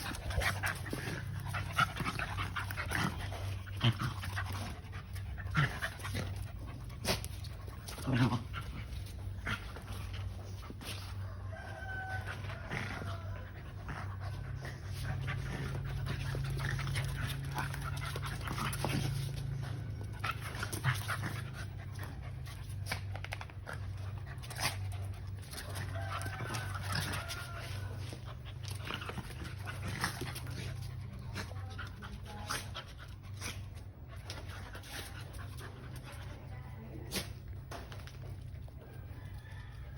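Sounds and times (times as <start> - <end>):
dogs fighting: 0.0 - 39.9.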